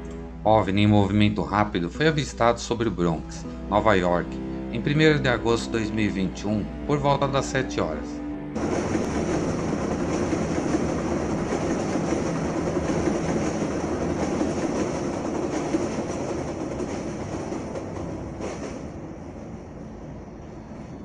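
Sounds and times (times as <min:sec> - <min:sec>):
train rumbling and clattering: 0:00.0 - 0:21.0.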